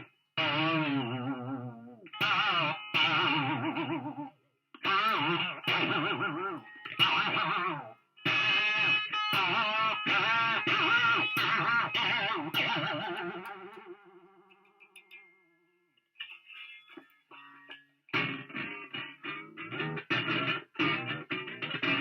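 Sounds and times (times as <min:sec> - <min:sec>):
distorted electric guitar with wah: 0:00.0 - 0:15.2, 0:16.2 - 0:22.0.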